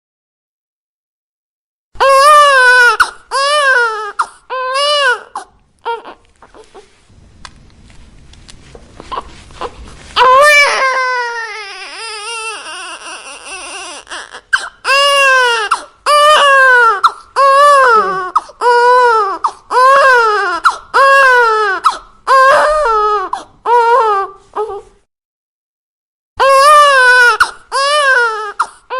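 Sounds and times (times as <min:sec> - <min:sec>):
newborn baby crying: 0:02.0 - 0:06.9, 0:09.0 - 0:25.0, 0:26.4 - 0:28.9.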